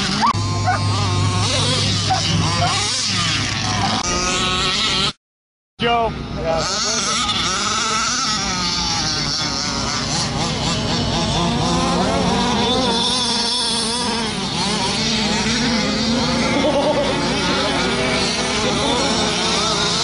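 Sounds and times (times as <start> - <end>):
two-stroke engine revving: 0.0 - 5.2, 6.2 - 20.0.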